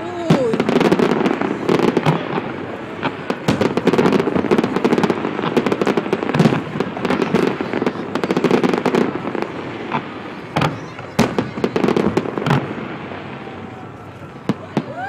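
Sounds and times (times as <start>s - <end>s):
fireworks and firecrackers banging: 0.0s - 15.0s.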